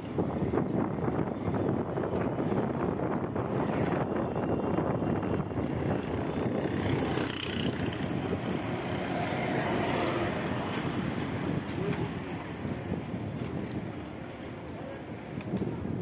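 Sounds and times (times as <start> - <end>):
motor traffic: 0.0 - 16.0
wind rushing over microphone: 0.0 - 16.0.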